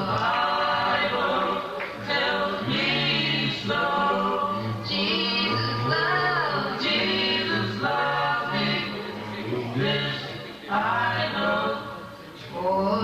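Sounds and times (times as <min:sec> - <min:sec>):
vocal group singing in harmony: 0:00.0 - 0:13.0.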